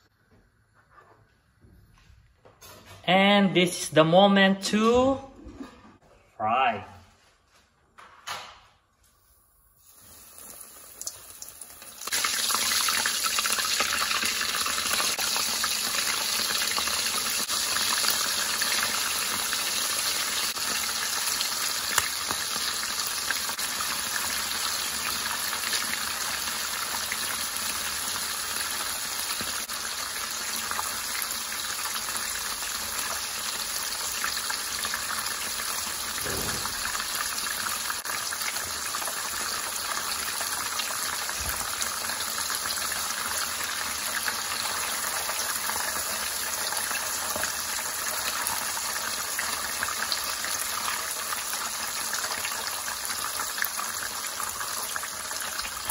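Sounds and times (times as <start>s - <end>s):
food sizzling in hot oil: 9.3s - 55.9s.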